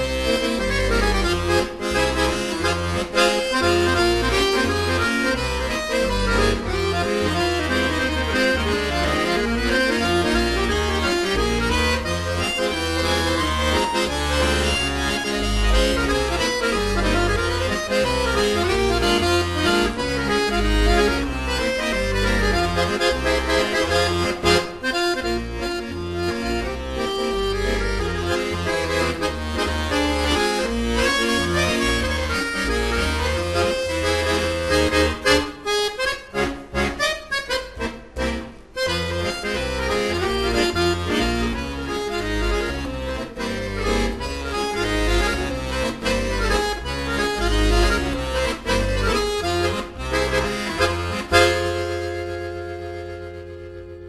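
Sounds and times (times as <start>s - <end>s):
accordion music: 0.0s - 54.0s.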